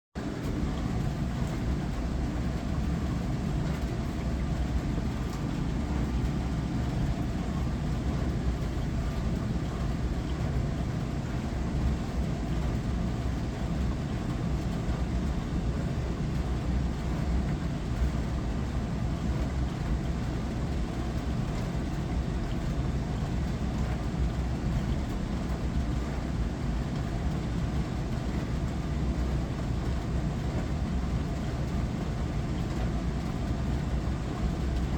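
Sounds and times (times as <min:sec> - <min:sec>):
dishwasher running: 0:00.2 - 0:34.9.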